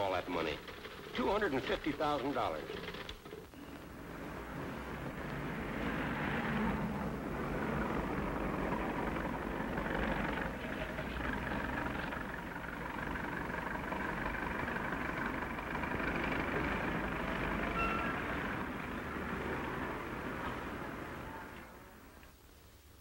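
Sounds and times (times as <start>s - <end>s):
street traffic: 0.0s - 23.0s.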